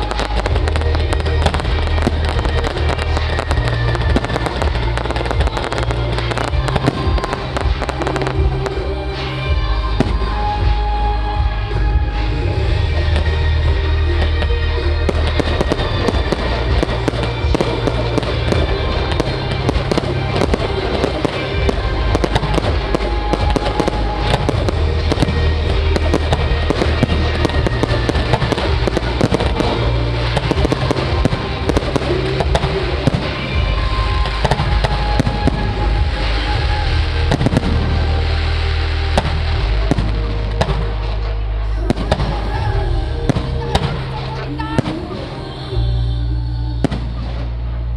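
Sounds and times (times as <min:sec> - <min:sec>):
fireworks bursting and crackling: 0:00.0 - 0:45.6, 0:46.8 - 0:47.9
music with deep bass: 0:00.0 - 0:47.9.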